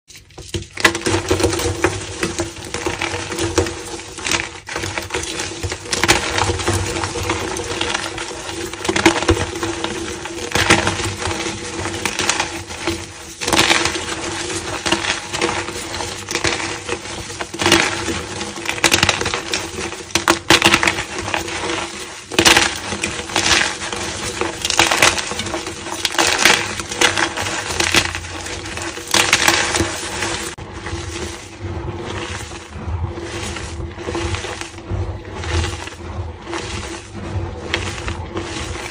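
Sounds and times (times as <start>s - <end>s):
chalk crunching and crackling: 0.1s - 38.9s.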